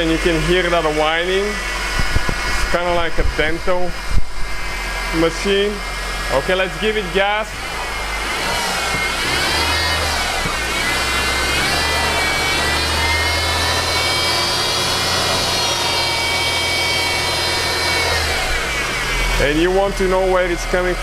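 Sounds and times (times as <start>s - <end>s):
car engine revving: 0.0s - 21.0s
high-pitched pulley whine: 0.0s - 21.0s.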